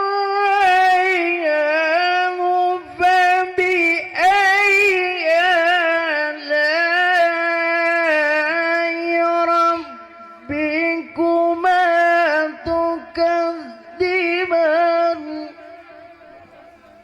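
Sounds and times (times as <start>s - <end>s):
solo voice melodic recitation: 0.0s - 16.0s.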